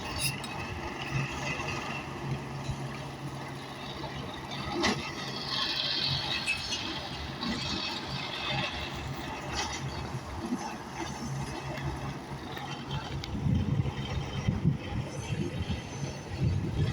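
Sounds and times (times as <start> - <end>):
steady machine hum: 0.0 - 16.9.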